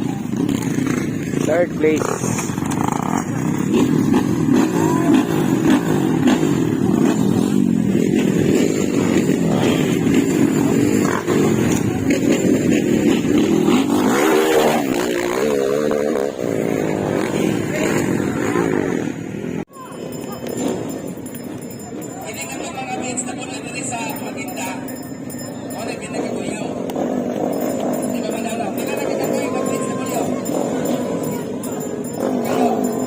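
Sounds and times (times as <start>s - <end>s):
dirt bike engines revving: 0.0s - 33.0s
single dirt bike revving: 0.0s - 33.0s.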